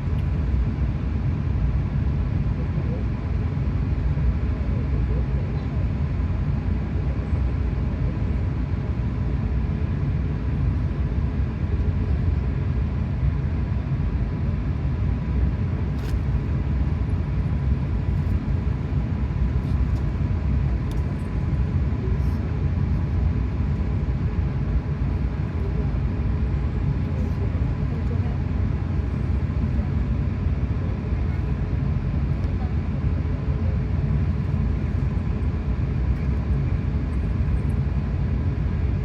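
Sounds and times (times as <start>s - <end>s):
airliner cabin engine rumble: 0.0s - 39.0s
faint steady whine: 0.0s - 39.0s.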